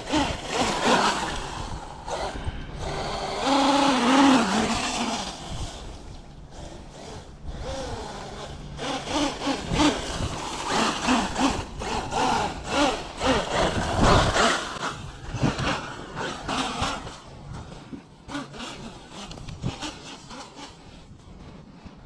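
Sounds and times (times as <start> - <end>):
tyres scrabbling on dirt: 0.0 - 21.3
electric motor whine: 0.0 - 21.5.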